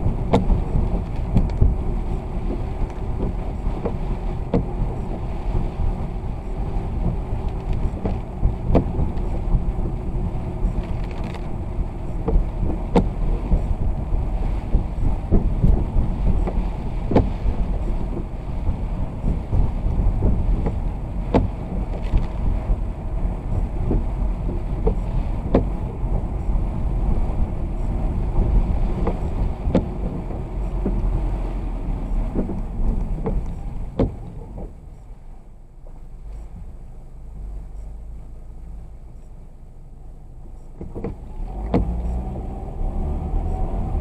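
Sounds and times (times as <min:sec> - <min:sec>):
rain taps: 0:00.0 - 0:44.0
vehicle road and motor rumble: 0:00.0 - 0:44.0.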